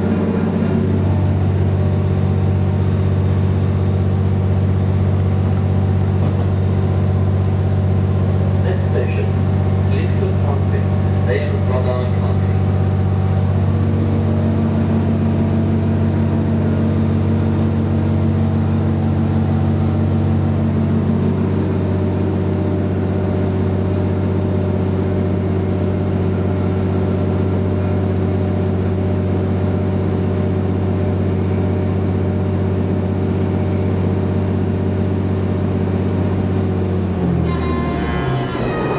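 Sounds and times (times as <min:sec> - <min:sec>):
train diesel engines running: 0:00.0 - 0:38.9.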